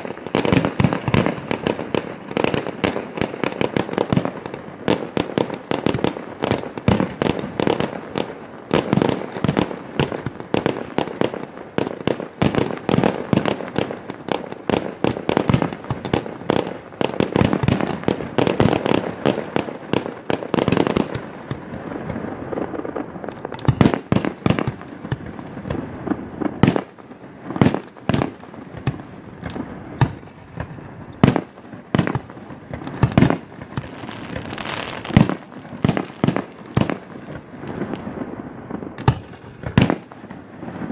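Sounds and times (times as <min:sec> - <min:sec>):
fireworks booming: 0:00.0 - 0:40.9
fireworks bursting: 0:00.0 - 0:40.9.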